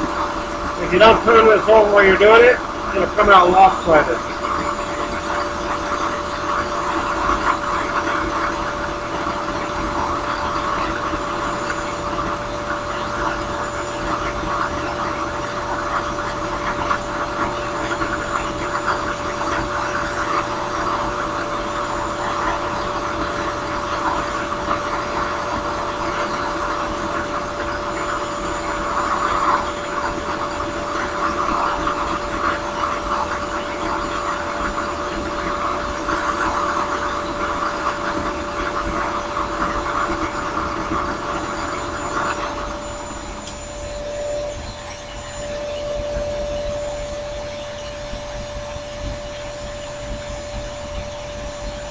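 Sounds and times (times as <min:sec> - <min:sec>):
drill press motor hum: 0:00.0 - 0:51.9.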